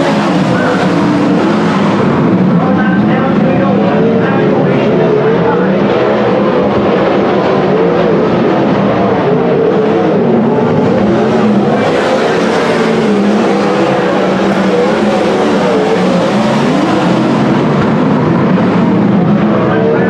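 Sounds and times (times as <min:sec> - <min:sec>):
racing car engines roaring: 0:00.0 - 0:20.0.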